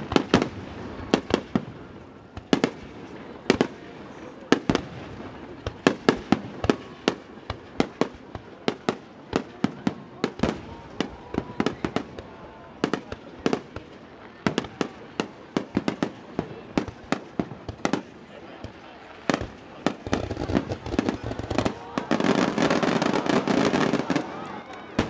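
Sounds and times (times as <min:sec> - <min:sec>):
fireworks bursting with sharp bangs: 0:00.0 - 0:25.0.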